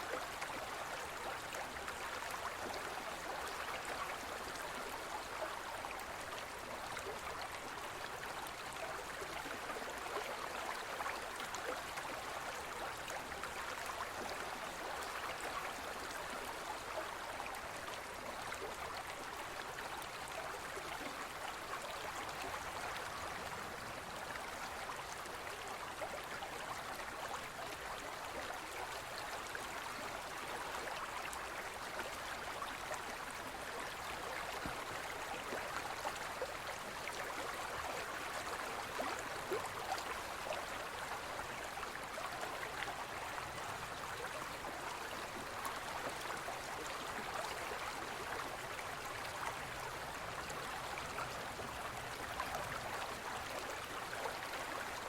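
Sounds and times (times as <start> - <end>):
forest stream babbling: 0.0 - 55.0.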